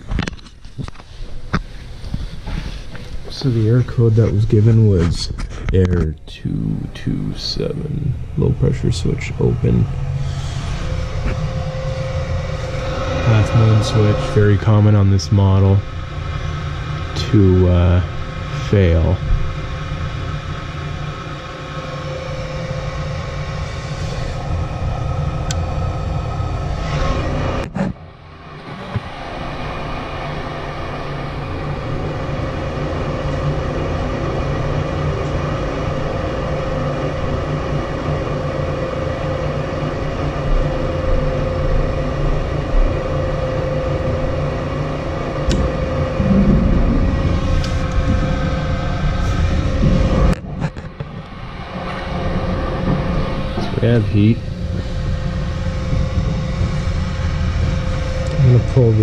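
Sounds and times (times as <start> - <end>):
inducer motor humming: 0.0 - 59.0
low burner rumble: 0.0 - 59.0.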